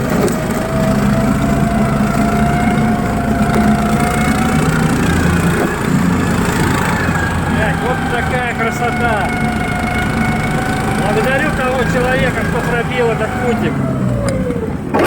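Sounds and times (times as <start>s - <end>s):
thin steady whine: 0.0s - 14.5s
snow tow engine running: 0.0s - 15.0s.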